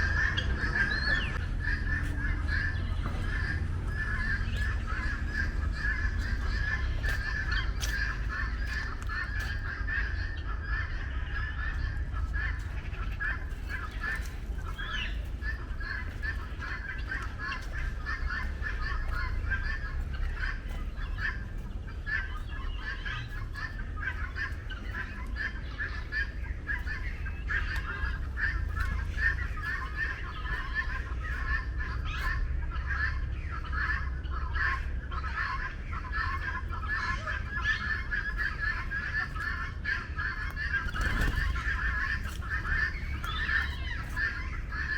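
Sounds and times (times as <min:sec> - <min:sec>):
chorus of birds calling: 0:00.0 - 0:44.9
steady low rumble: 0:00.0 - 0:44.9.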